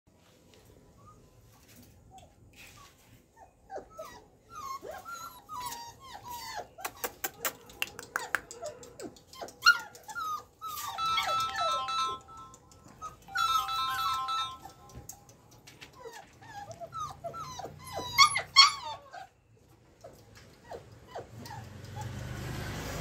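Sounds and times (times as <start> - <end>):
puppies whimpering and yelping: 0.8 - 22.2.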